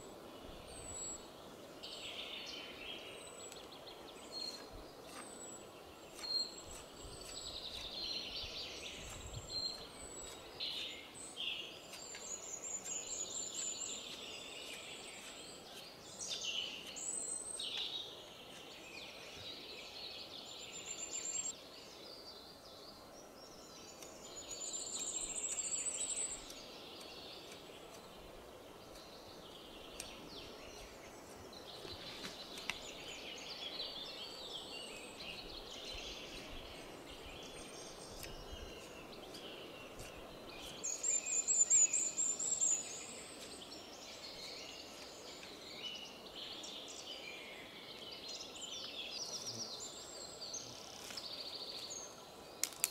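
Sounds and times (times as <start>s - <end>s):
woodland birds singing: 0.0s - 52.9s.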